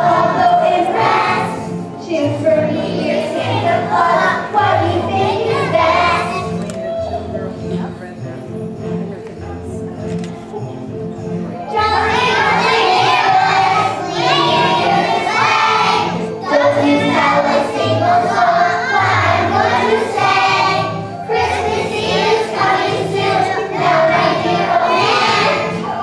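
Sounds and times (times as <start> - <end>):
children's choir singing: 0.0 - 6.8, 11.6 - 26.0
instrumental accompaniment: 0.0 - 26.0.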